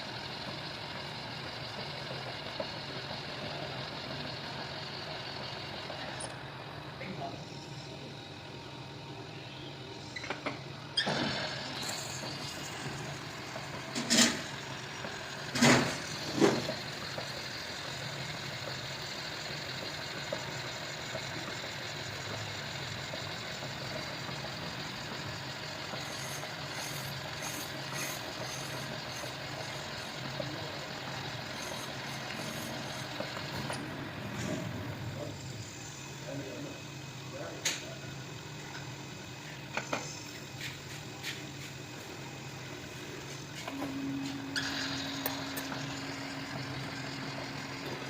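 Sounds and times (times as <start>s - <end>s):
workshop machinery humming: 0.0s - 48.0s.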